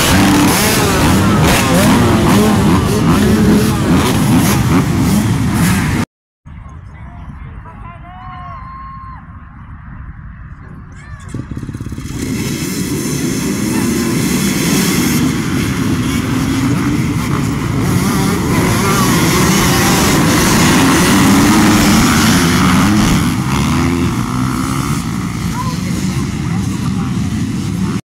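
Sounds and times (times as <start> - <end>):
dirt bike engines revving: 0.0 - 6.1, 10.9 - 28.0.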